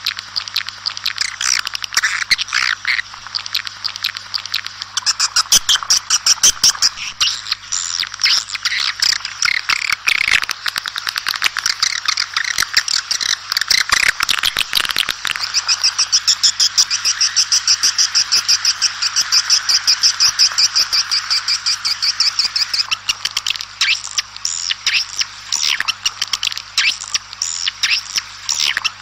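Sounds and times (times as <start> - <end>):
swiftlets twittering: 0.3 - 29.0.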